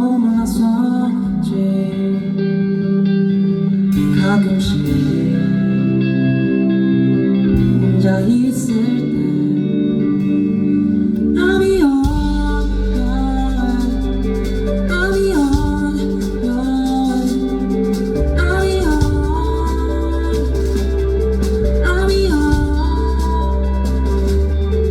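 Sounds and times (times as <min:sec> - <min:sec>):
person singing: 0:00.0 - 0:24.9
live band playing: 0:02.8 - 0:24.9.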